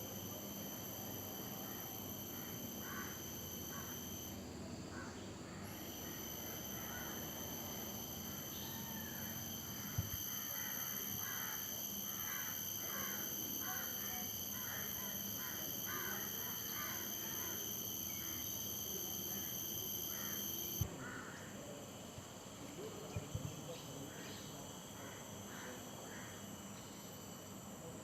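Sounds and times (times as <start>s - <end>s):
high-pitched insect drone: 0.0s - 21.5s, 22.6s - 28.0s.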